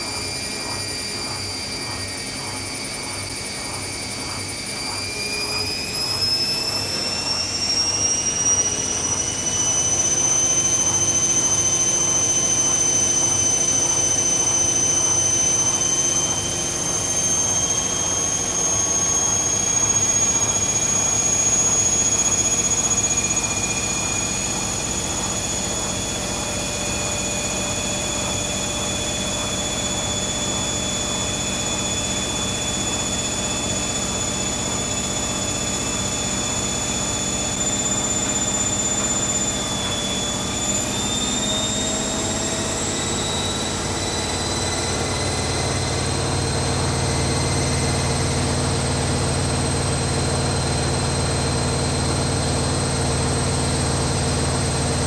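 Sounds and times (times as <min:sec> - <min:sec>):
washing machine spin whine: 0:00.0 - 0:55.0.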